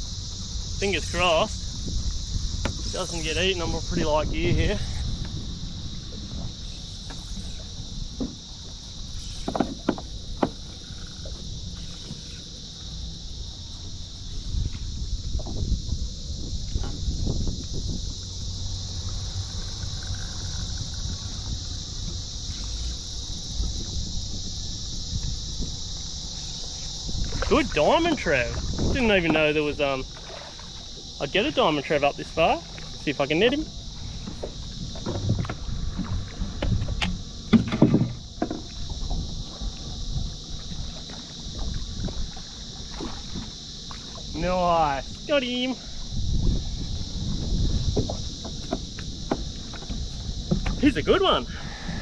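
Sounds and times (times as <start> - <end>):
high-pitched insect drone: 0.0 - 52.0
steady high hiss: 0.0 - 52.0
wind rumbling on microphone: 0.0 - 52.0
knocks and handling noises on boat: 0.4 - 52.0.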